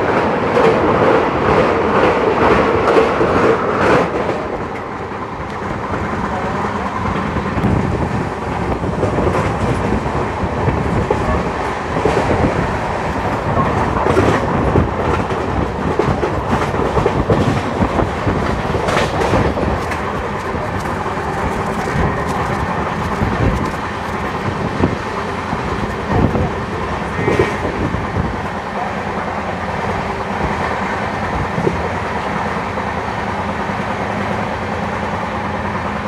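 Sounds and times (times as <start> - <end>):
train wheels rumbling on rails: 0.0 - 36.0
wheels clacking over rail joints: 0.0 - 36.0.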